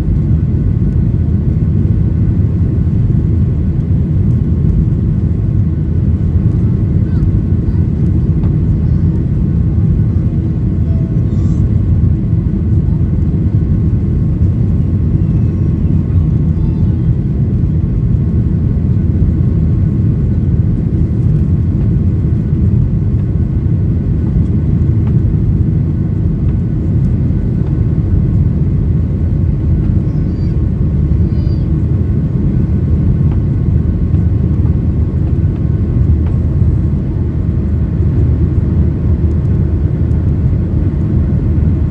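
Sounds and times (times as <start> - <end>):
jet engine cabin roar: 0.0 - 41.9.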